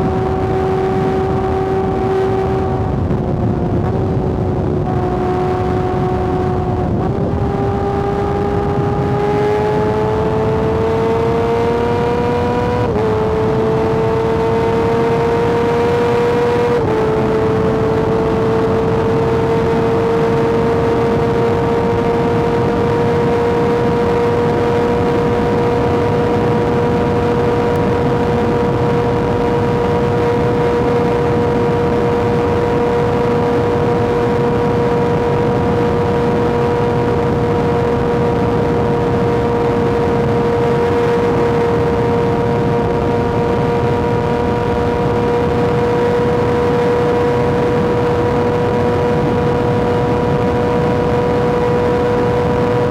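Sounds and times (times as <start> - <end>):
motorcycle engine at high revs: 0.0 - 52.9.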